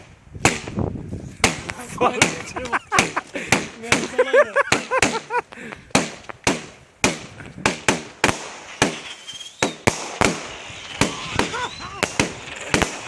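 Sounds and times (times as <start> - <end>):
fireworks bangs: 1.4 - 13.0.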